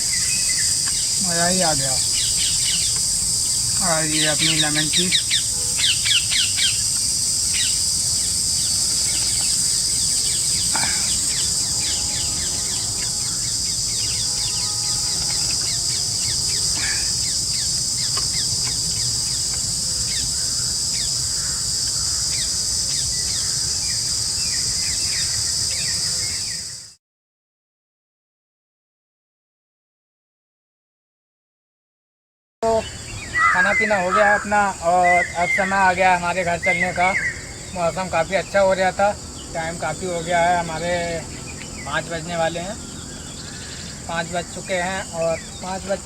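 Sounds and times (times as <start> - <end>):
birds chirping: 0.0 - 26.8, 32.6 - 46.0
high-pitched insect drone: 0.0 - 27.0, 32.6 - 46.0.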